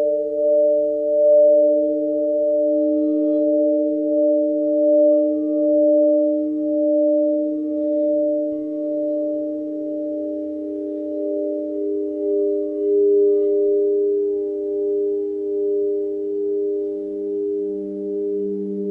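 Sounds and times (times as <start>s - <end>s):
singing bowls ringing: 0.0s - 18.9s.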